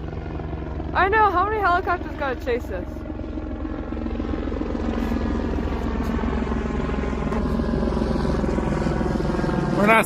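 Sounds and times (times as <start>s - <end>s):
helicopter rotor chop: 0.0s - 10.0s.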